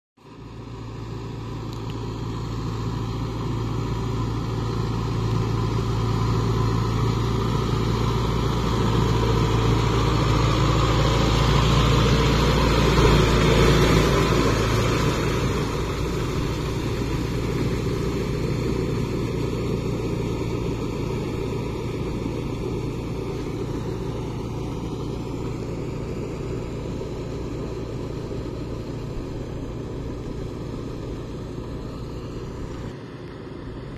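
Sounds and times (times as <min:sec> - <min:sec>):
tractor diesel engine running: 0:00.2 - 0:33.9
rotavator churning mud: 0:02.0 - 0:33.4.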